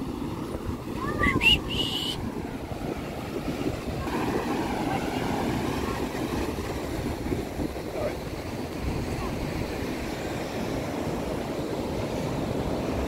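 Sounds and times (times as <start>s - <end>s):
surf breaking on a beach: 0.0s - 13.0s
wind buffeting microphone: 0.0s - 13.0s.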